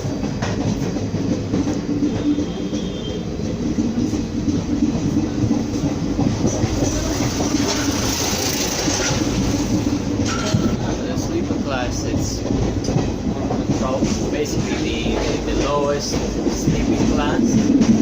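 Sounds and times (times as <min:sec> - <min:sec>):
faint clickety-clack: 0:00.0 - 0:18.0
train wheels rumbling on rails: 0:00.0 - 0:18.0.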